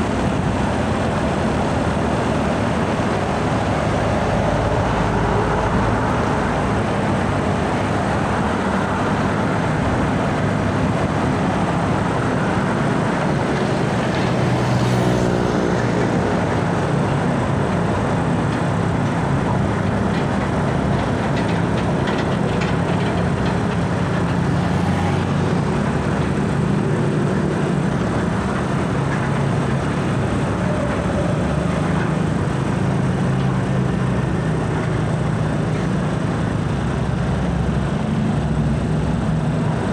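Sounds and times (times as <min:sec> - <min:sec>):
heavy trucks rolling past: 0:00.0 - 0:39.9
road traffic noise: 0:00.0 - 0:39.9.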